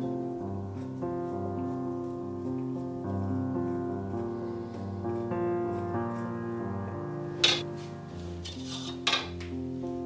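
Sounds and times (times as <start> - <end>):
slow piano music: 0.0 - 10.0.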